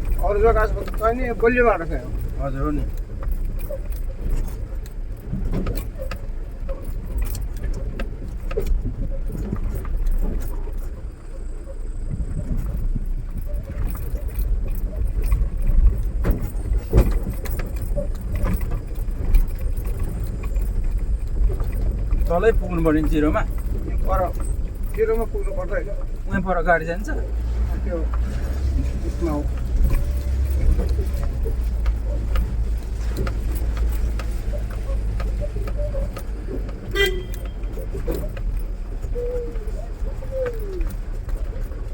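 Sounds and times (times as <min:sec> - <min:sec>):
engine and road rumble: 0:00.0 - 0:41.9
vehicle rattling and clattering: 0:00.0 - 0:41.9.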